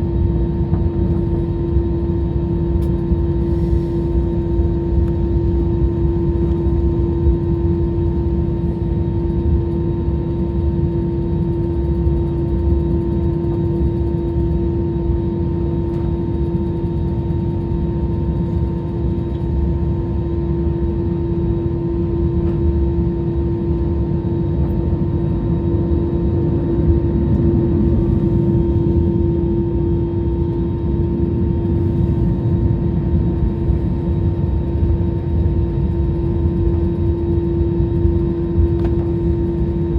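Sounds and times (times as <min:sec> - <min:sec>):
jet engines from inside cabin: 0:00.0 - 0:39.9.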